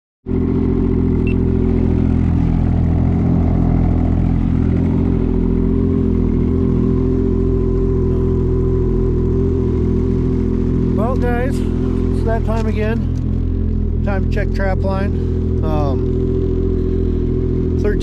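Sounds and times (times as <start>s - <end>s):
snowmobile engine idling: 0.3s - 18.0s.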